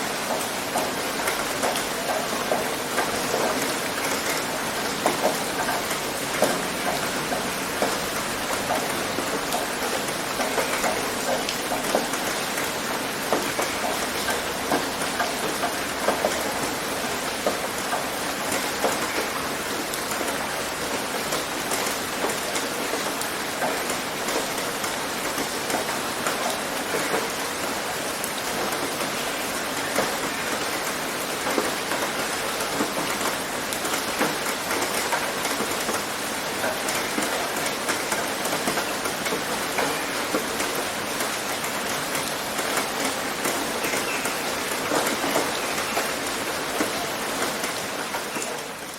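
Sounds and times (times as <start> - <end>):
rain on a tin roof: 0.0 - 48.9.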